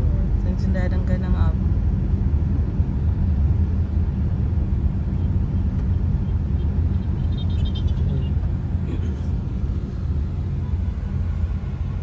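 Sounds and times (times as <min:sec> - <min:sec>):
car engine: 0:00.0 - 0:12.0
road rumble: 0:00.0 - 0:12.0.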